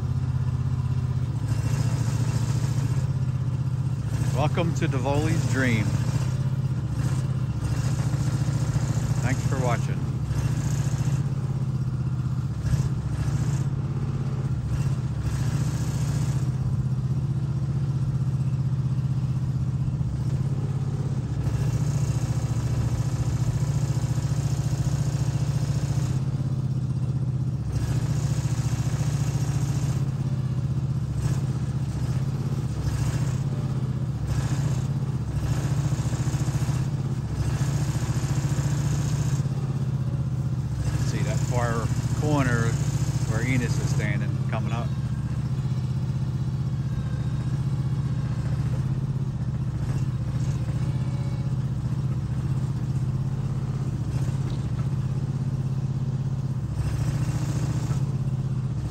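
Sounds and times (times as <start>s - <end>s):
small engine humming: 0.0s - 58.9s.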